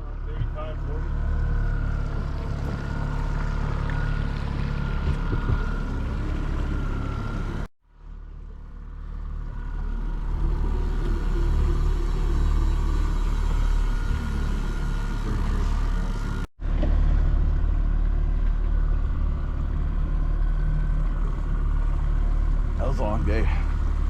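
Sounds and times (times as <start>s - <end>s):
motorboat engine rumbling: 0.0s - 24.0s.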